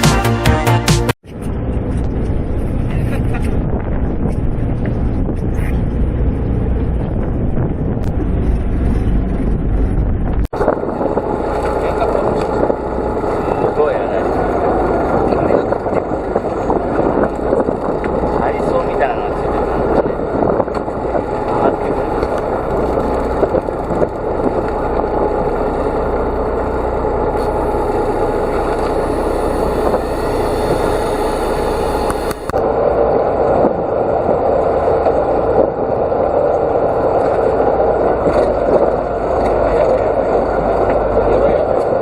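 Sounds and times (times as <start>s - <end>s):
boat engine running: 0.0s - 42.0s
wind noise: 1.2s - 42.0s
water noise: 1.3s - 42.0s.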